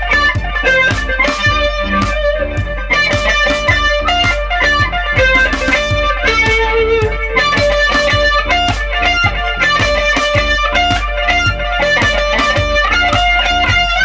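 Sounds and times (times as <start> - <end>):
electric guitar picked single notes: 0.0 - 14.0.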